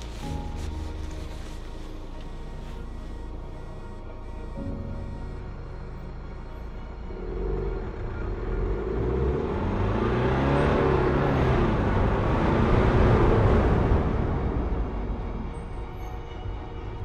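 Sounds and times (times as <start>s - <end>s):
car engine accelerating: 0.0s - 15.7s.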